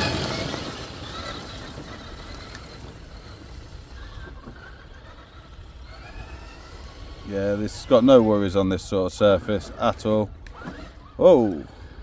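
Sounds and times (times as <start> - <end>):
electric motor whirring: 0.0 - 12.0
tyres on dirt: 0.0 - 12.0.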